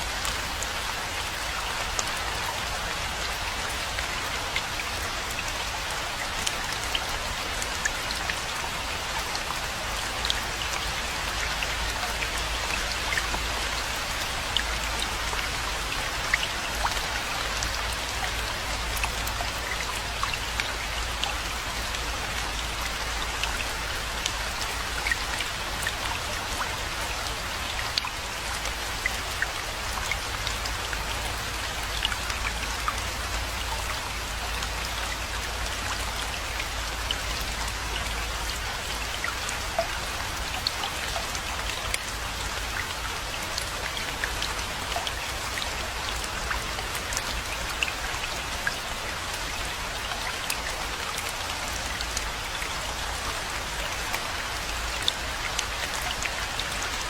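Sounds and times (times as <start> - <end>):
raindrops pattering close by: 0.0 - 57.0.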